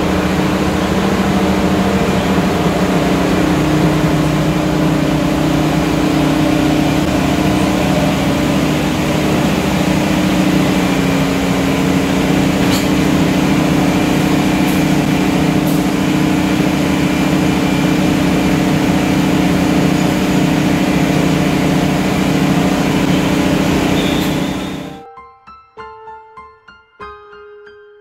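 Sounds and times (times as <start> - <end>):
locomotive engine idling: 0.0 - 25.0.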